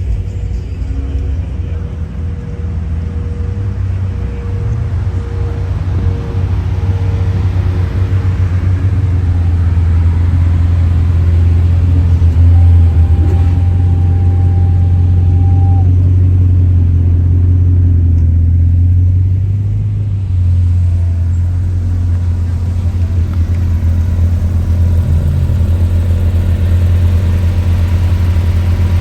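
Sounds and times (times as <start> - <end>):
car engine rumbling at low revs: 0.0 - 29.0.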